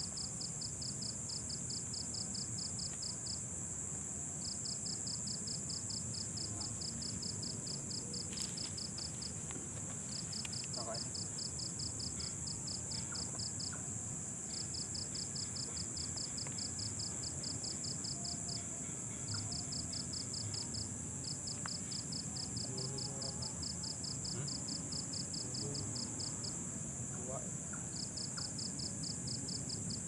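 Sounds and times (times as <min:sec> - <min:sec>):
cricket-like chirping: 0:00.0 - 0:30.0
high-pitched insect trill: 0:00.0 - 0:30.0.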